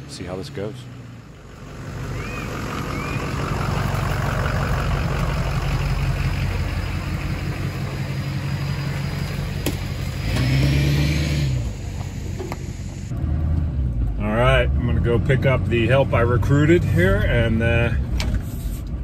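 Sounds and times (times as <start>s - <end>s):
pickup truck engine driving past: 0.8s - 17.2s.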